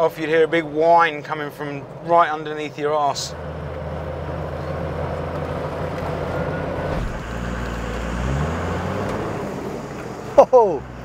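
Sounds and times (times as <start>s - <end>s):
diesel engine droning: 0.0s - 11.0s
tyre and road noise: 0.0s - 11.0s.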